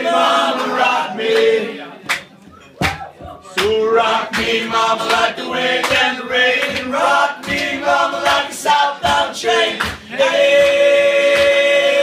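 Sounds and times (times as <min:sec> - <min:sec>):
group singing chorus: 0:00.0 - 0:02.0, 0:03.5 - 0:12.0.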